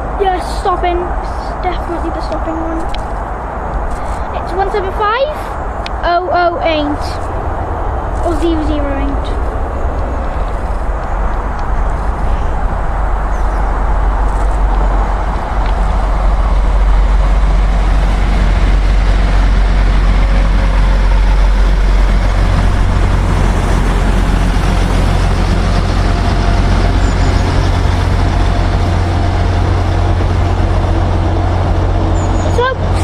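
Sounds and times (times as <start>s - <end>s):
diesel train engines droning: 0.0s - 33.0s.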